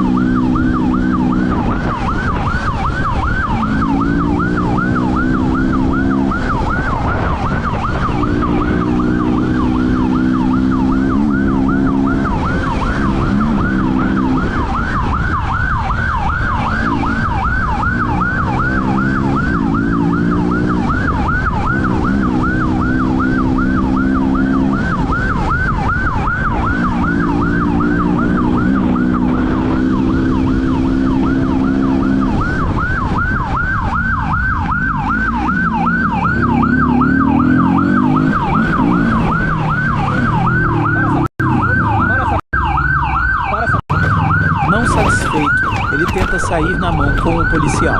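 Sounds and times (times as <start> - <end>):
police siren yelping: 0.0 - 47.9.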